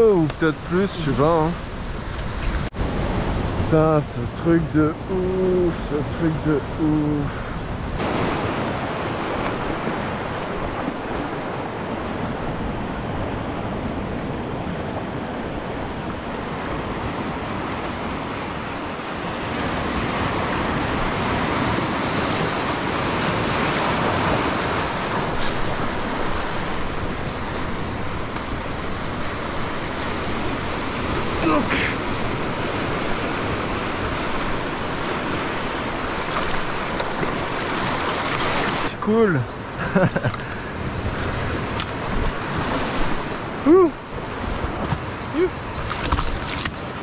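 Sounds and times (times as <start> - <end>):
surf breaking over rocks: 0.0 - 39.4.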